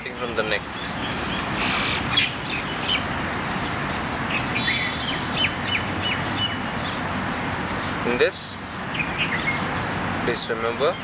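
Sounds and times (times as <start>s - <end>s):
birds chirping: 0.0s - 11.0s
outdoor background hiss: 0.0s - 11.0s.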